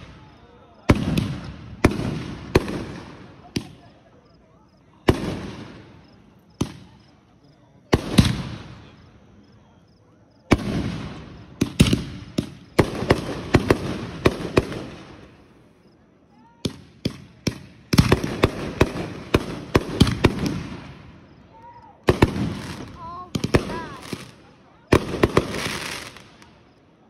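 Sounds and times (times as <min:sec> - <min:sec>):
fireworks exploding: 0:00.0 - 0:04.2, 0:05.0 - 0:07.2, 0:07.8 - 0:09.2, 0:10.4 - 0:15.7, 0:16.6 - 0:26.8.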